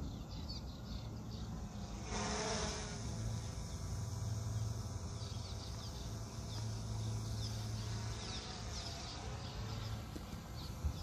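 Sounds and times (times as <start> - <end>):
drone motors buzzing: 0.8 - 11.0.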